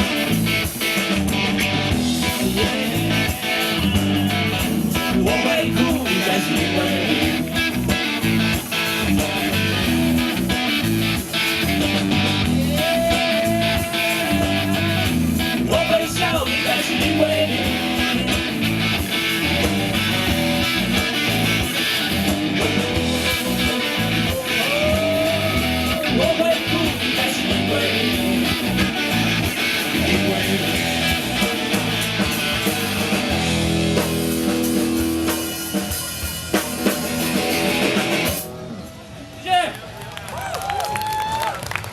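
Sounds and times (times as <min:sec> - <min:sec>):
drum kit: 0:00.0 - 0:38.8
guitars: 0:00.0 - 0:39.4
band music: 0:00.0 - 0:40.2.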